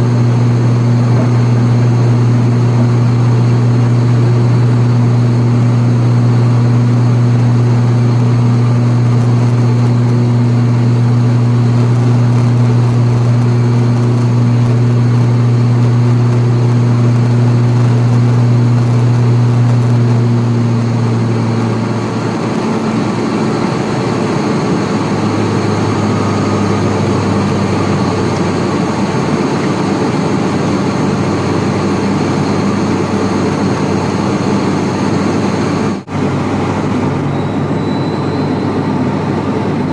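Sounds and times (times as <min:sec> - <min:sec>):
propeller plane cabin drone: 0:00.0 - 0:39.9.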